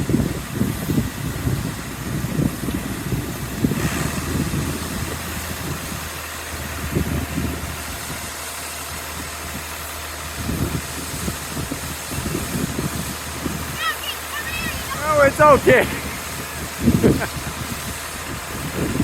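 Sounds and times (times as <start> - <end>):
uneven low rumbles: 0.0 - 13.8, 14.5 - 19.0
engine humming: 0.0 - 19.0.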